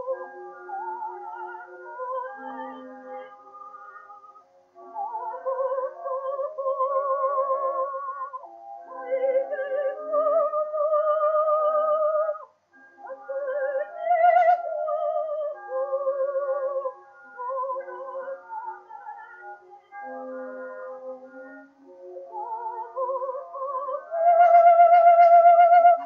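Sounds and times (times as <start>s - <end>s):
woman singing with vibrato: 0.0s - 20.1s, 22.2s - 26.0s.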